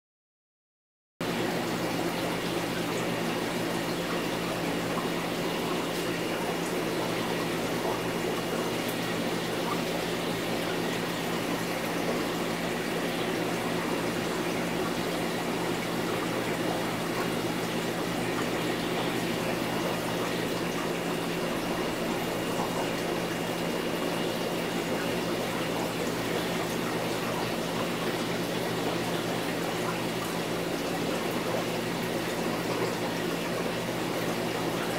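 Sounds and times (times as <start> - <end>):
aquarium filter water moving: 1.2 - 34.9.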